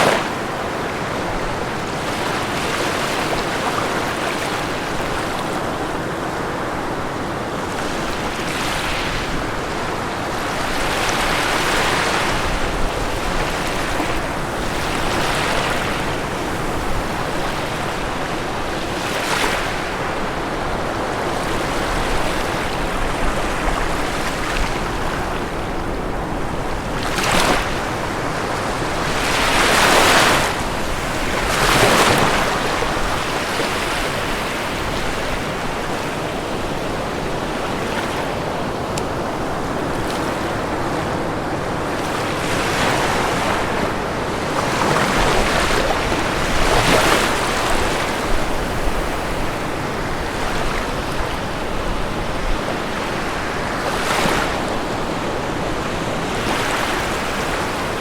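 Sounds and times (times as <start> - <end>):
ocean waves on shore: 0.0 - 58.0.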